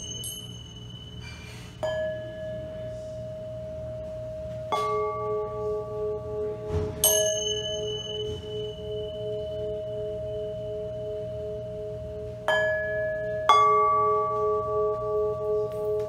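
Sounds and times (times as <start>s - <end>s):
metal bowls struck ringing: 0.0s - 16.0s.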